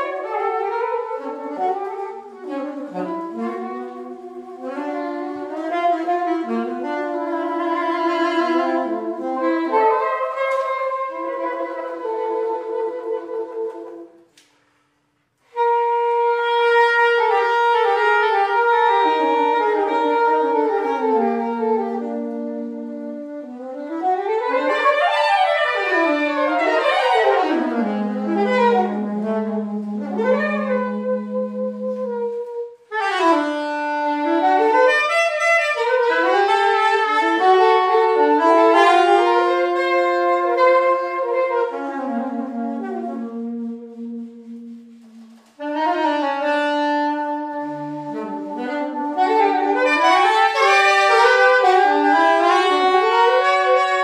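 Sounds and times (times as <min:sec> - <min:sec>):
saxophones playing jazz: 0:00.0 - 0:14.3, 0:15.4 - 0:54.0.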